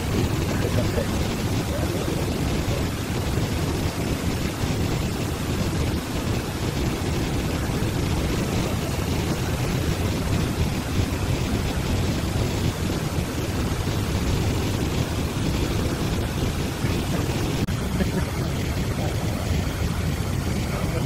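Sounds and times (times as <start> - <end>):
river rapids and waterfall roaring: 0.0 - 21.0.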